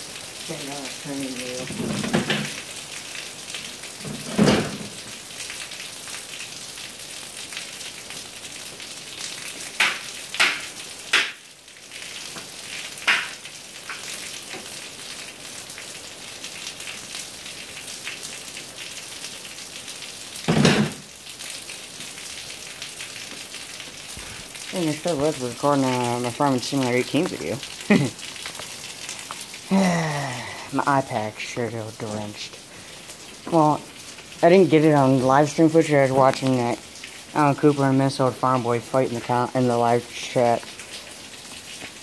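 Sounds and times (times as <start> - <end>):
heavy rain on pavement: 0.0 - 42.0.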